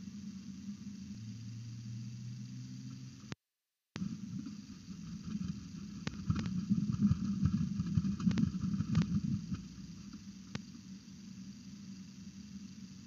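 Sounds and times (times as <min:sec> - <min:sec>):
steady low hum: 0:00.0 - 0:03.4, 0:04.0 - 0:13.0.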